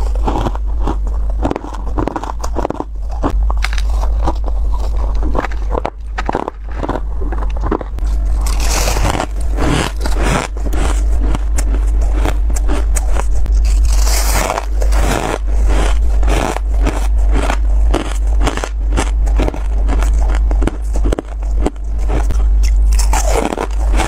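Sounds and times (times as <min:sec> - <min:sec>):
crunching and chewing frost: 0:00.0 - 0:24.0
low rumble: 0:00.0 - 0:24.0.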